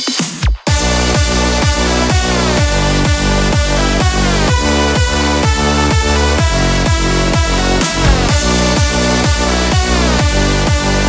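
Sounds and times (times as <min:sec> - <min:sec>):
electronic dance music: 0:00.0 - 0:11.0
fast drum roll build: 0:00.0 - 0:11.0.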